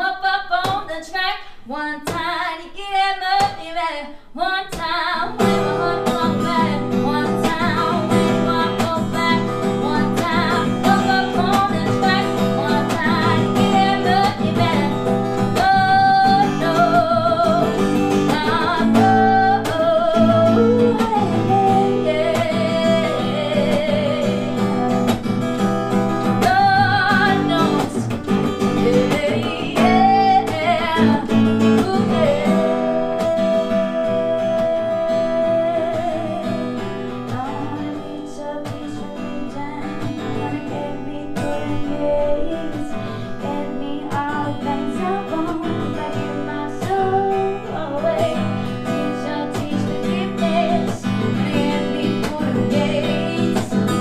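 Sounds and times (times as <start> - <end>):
person singing: 0.0 - 54.0
acoustic guitar strumming: 4.7 - 54.0.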